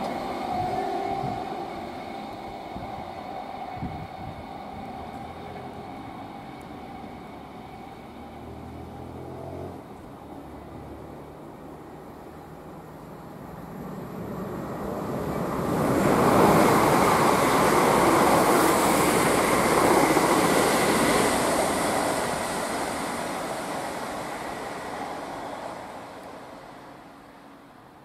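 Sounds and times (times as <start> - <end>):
train wheels rushing on rails: 0.0 - 28.0.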